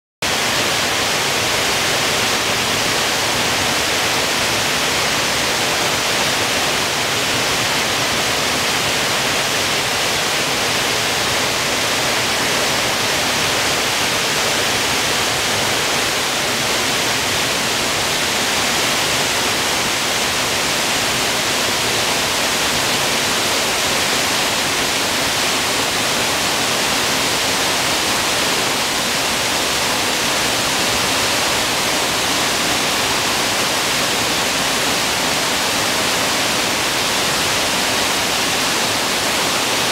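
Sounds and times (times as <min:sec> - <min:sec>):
stream flowing over rocks: 0:00.2 - 0:39.9
waterfall rushing: 0:00.2 - 0:39.9.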